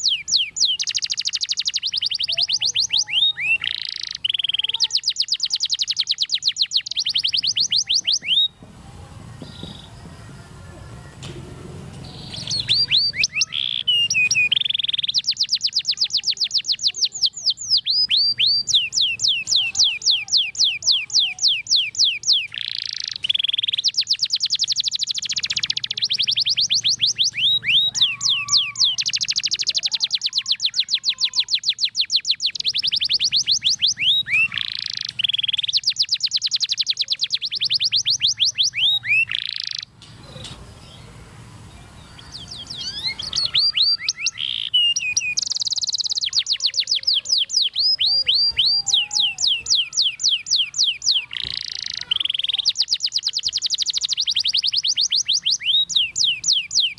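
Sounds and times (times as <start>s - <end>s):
canary singing rolling trills: 0.0s - 56.9s.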